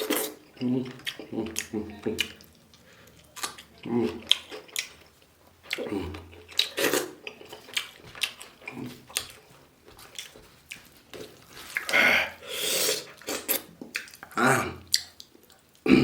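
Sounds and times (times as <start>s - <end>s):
person chewing food: 0.0s - 15.9s.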